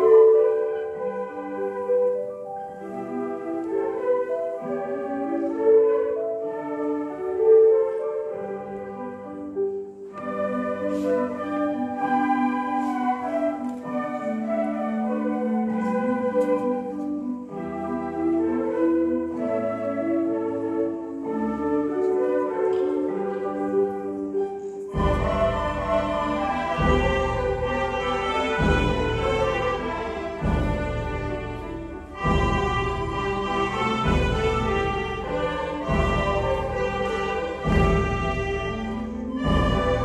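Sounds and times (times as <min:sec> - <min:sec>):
school ensemble playing classical piece: 0:00.0 - 0:40.0.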